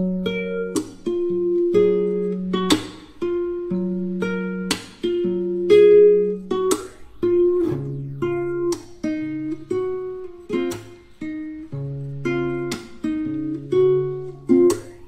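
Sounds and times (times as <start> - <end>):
plucked acoustic guitar: 0.0 - 15.0.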